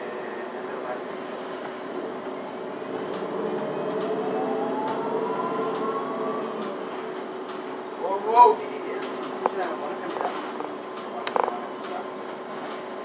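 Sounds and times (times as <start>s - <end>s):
bus engine running: 0.0s - 13.0s
rising drivetrain whine: 0.8s - 11.6s.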